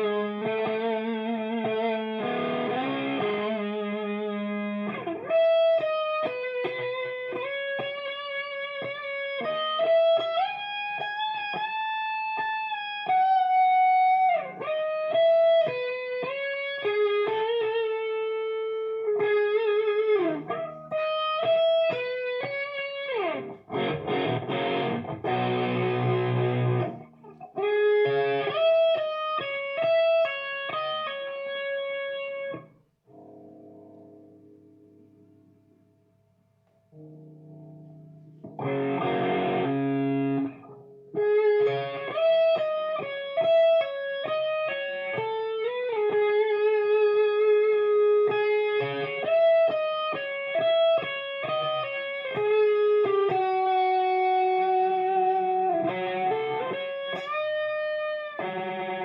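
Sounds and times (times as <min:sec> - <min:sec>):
electric guitar playing: 0:00.0 - 0:59.0.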